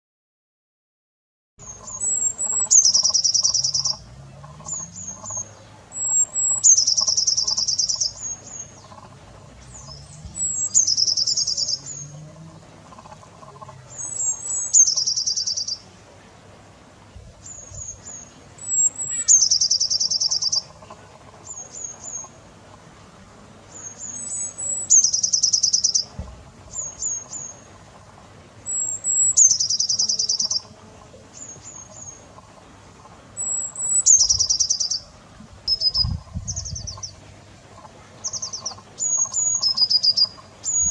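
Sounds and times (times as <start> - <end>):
songbird singing: 1.6 - 40.9.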